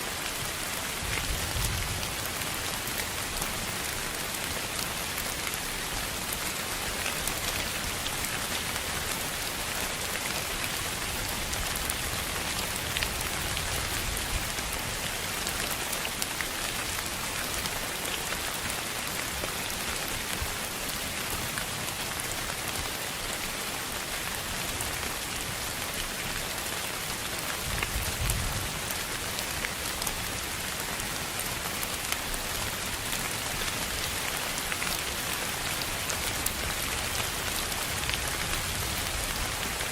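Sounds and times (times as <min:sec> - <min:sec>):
steady rain-like hiss: 0:00.0 - 0:39.9.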